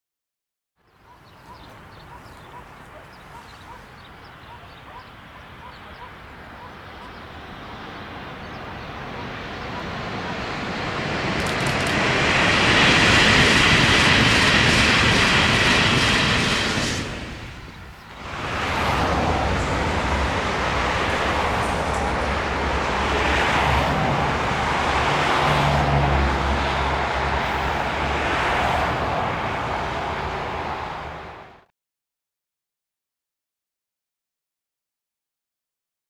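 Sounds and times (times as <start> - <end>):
passenger train passing: 1.1 - 31.7.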